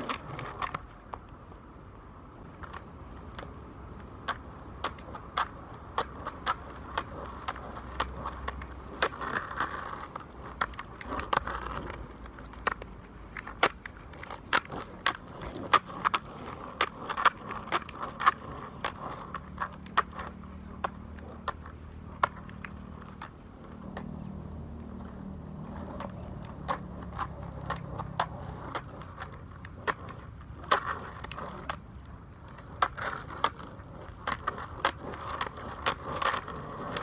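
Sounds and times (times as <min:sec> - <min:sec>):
skateboard clicks and clacks: 0:00.0 - 0:37.0
skateboard wheels rumbling: 0:00.0 - 0:37.0.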